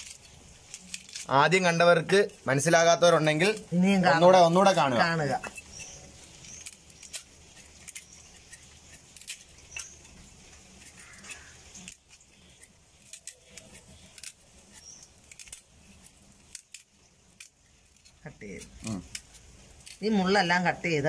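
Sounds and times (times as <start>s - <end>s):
knife scraping fish scales: 3.3s - 20.2s.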